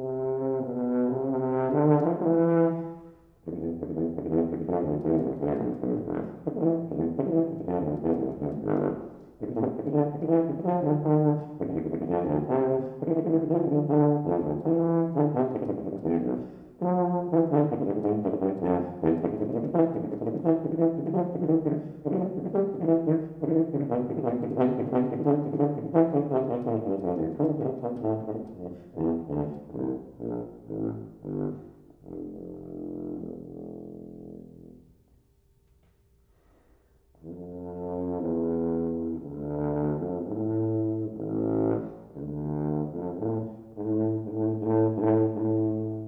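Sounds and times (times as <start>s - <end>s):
tuba playing short notes: 0.0s - 34.9s, 37.2s - 46.0s.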